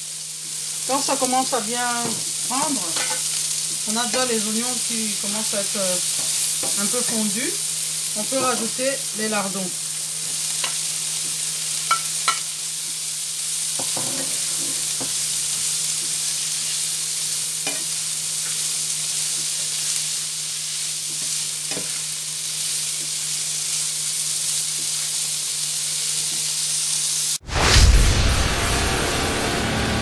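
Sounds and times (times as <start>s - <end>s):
onions sizzling in a frying pan: 0.0s - 27.4s.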